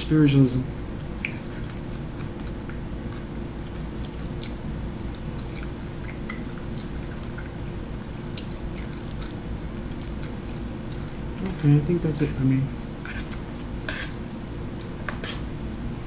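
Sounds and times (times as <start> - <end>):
steady low hum: 0.0 - 16.0
person chewing: 1.0 - 11.5, 13.0 - 15.5.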